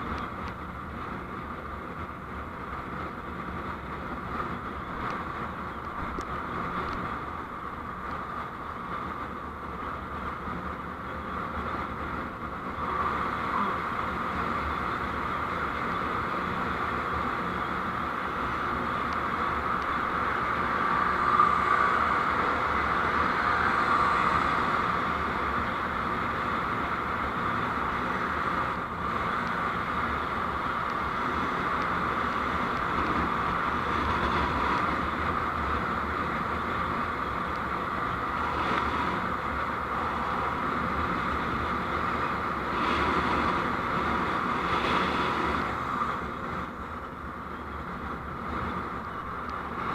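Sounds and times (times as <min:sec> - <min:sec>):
vehicle road noise: 0:00.0 - 0:49.9.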